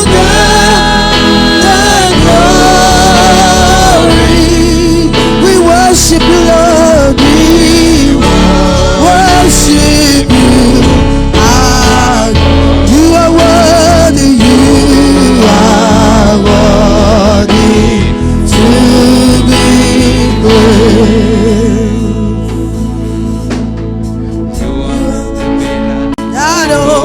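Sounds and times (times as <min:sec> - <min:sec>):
gospel singers with vibrato: 0:00.0 - 0:27.0
live band with steady bass: 0:00.0 - 0:27.0.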